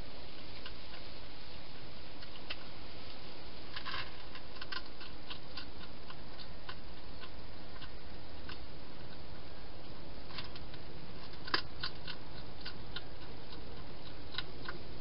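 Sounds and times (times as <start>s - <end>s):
steady hiss: 0.0s - 15.0s
hedgehog chewing food: 0.4s - 15.0s.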